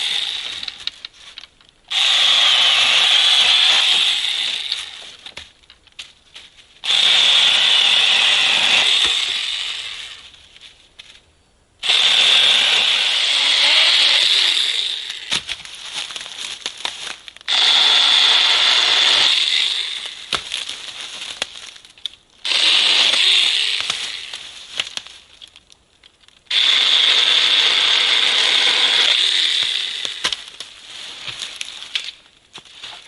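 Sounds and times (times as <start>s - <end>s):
mini chainsaw cutting branches: 0.0s - 1.0s, 1.9s - 5.4s, 6.8s - 10.3s, 11.8s - 21.5s, 22.4s - 25.1s, 26.5s - 33.0s
wood crackling: 0.0s - 33.0s.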